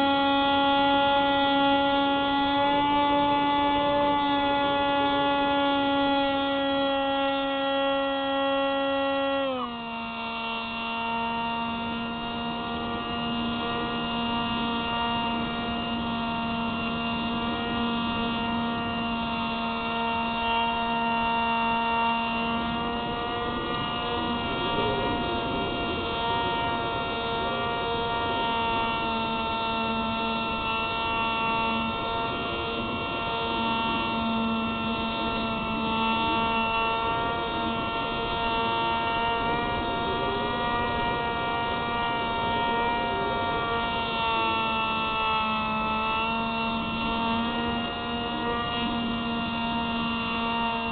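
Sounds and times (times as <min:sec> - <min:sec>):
electric motor and propeller whining: 0:00.0 - 0:50.9.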